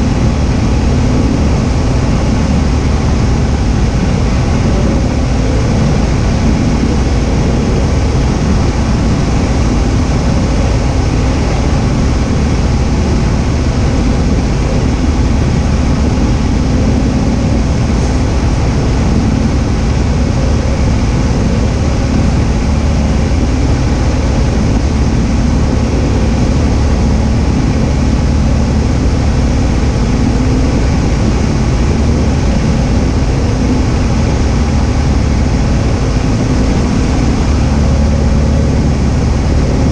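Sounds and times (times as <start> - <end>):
airplane engine drone: 0.0 - 39.9
wind noise: 0.0 - 39.9.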